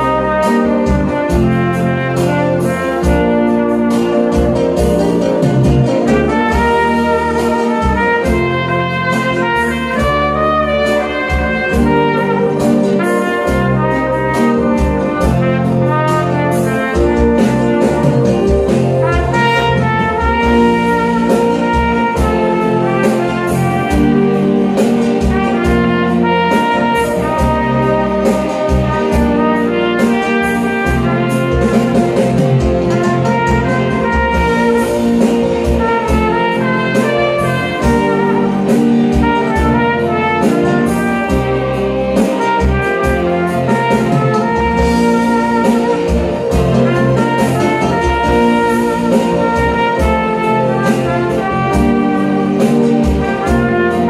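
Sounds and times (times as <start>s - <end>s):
backing track with bass and beat: 0.0s - 54.0s
trumpet playing slow melody: 0.0s - 54.0s.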